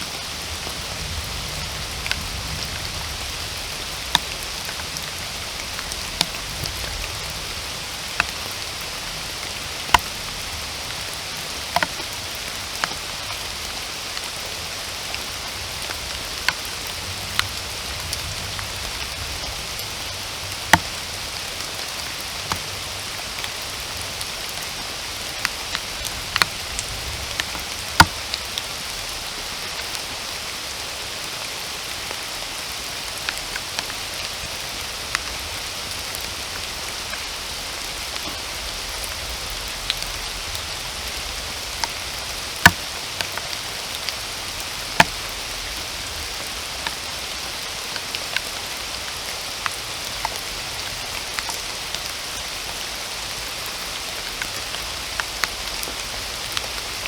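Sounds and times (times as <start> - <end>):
raindrops tapping close by: 0.0 - 57.0
steady rain falling: 0.0 - 57.0.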